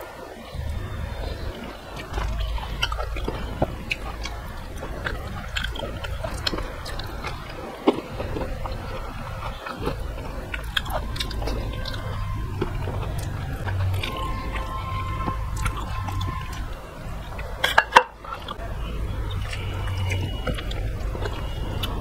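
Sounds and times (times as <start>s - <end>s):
chewing food: 0.5s - 22.0s.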